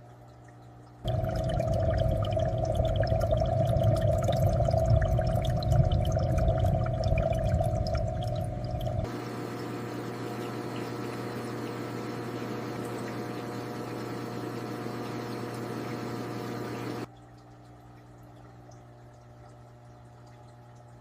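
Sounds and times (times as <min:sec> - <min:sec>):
aquarium water bubbling: 0:00.0 - 0:21.0
low steady hum: 0:00.0 - 0:21.0.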